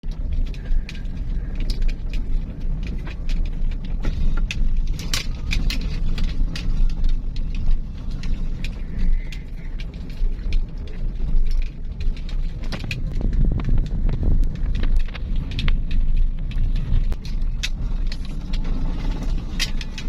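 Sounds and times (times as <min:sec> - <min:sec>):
sharp clicks and knocks: 0:00.0 - 0:20.0
traffic engine and road rumble: 0:00.0 - 0:20.0.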